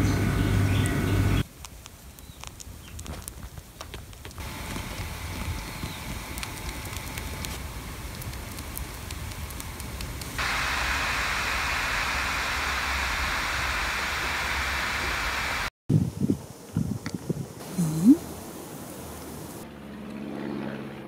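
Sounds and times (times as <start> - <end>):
steady hiss: 1.4 - 19.6.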